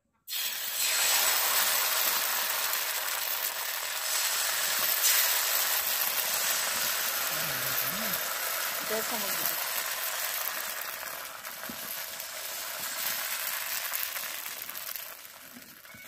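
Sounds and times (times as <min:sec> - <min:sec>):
batter sizzling in hot oil: 0:00.3 - 0:16.0.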